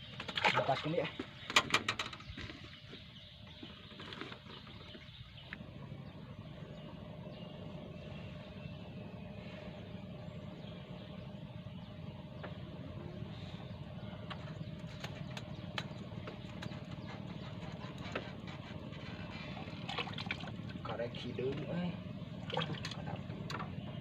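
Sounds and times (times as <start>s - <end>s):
faint engine hum: 0.0s - 24.0s.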